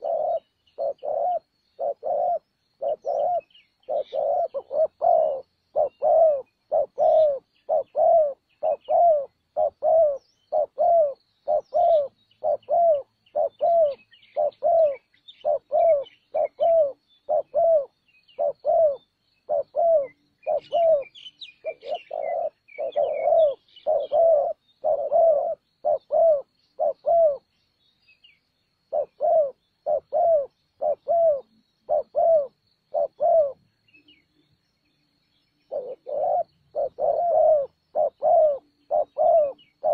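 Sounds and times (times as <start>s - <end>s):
dove cooing: 0.0s - 27.5s, 28.8s - 33.8s, 35.7s - 39.9s
small birds chirping: 0.0s - 39.9s.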